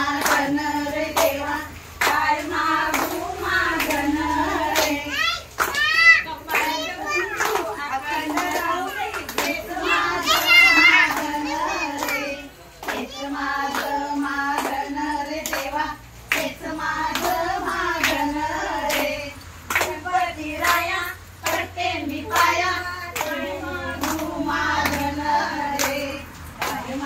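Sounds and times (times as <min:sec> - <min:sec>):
hands clapping in rhythm: 0:00.0 - 0:27.0
women singing folk song: 0:00.0 - 0:27.0.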